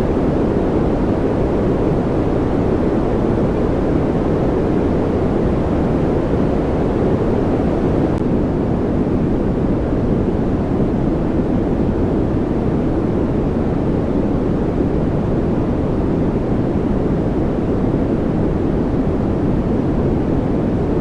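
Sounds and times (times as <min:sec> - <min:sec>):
deep rumbling white noise: 0:00.0 - 0:21.0.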